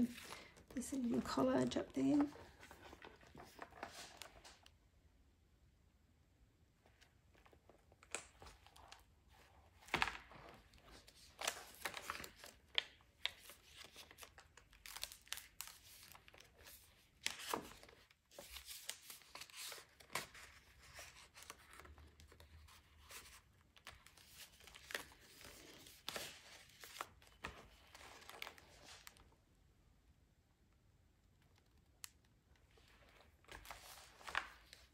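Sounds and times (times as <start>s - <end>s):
paper rustling and crinkling: 0.0s - 4.7s, 7.0s - 29.2s, 32.7s - 34.9s.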